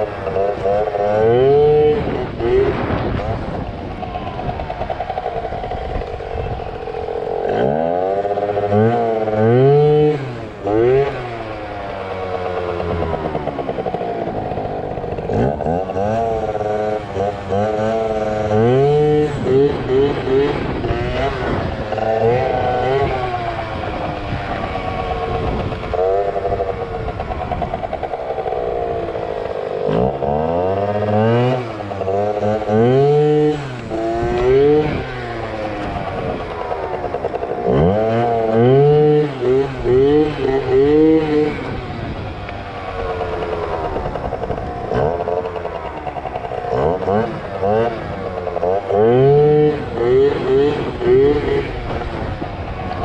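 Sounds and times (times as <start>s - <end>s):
scooter engine revving: 0.0s - 53.0s.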